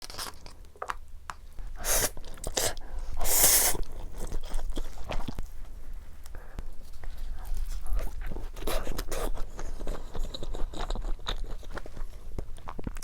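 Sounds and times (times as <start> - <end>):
crunchy chewing: 1.6 - 13.0.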